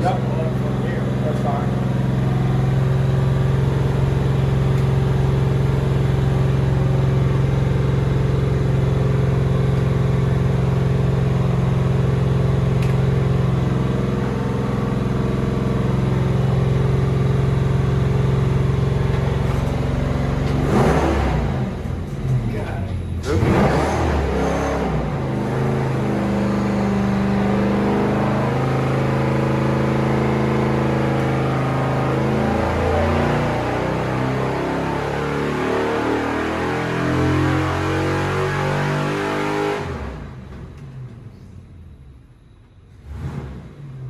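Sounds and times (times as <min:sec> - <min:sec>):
car engine running steadily: 0:00.0 - 0:44.0.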